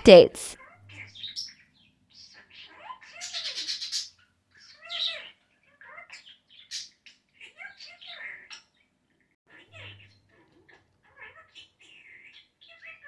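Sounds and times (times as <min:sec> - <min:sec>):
budgerigar chattering and warbling: 0:00.6 - 0:08.9, 0:09.5 - 0:13.0.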